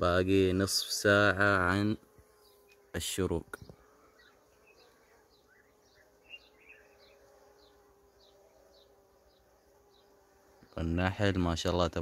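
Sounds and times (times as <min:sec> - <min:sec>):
honeybees humming: 0:00.0 - 0:12.0.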